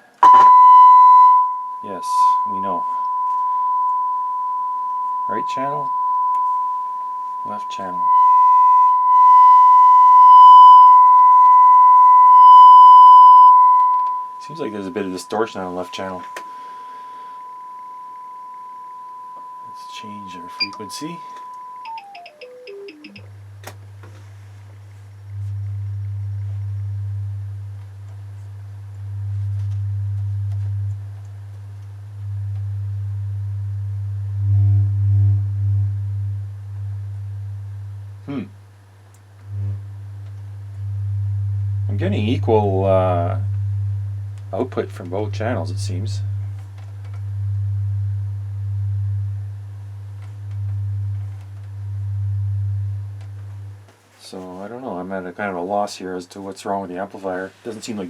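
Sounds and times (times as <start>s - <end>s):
steady sine test tone: 0.0s - 55.0s.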